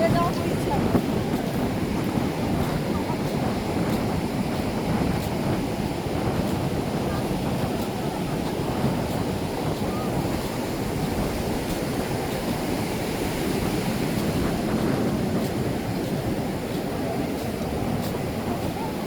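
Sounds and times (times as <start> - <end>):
ocean surf washing on beach: 0.0 - 19.0
wind on microphone: 0.0 - 19.0.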